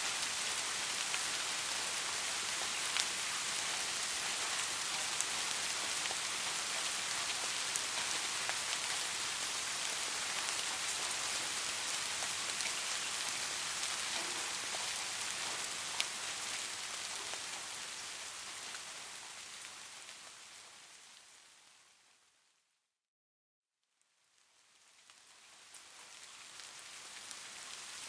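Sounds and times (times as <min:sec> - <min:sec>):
steady rain falling: 0:00.0 - 0:22.6, 0:24.1 - 0:28.0.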